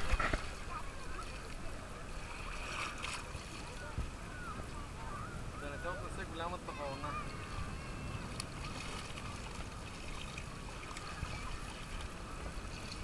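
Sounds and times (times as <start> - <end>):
seawater sloshing around wading legs: 0.0 - 4.8, 7.2 - 13.0
faint distant voices: 0.0 - 13.0
wind noise on microphone: 0.0 - 13.0.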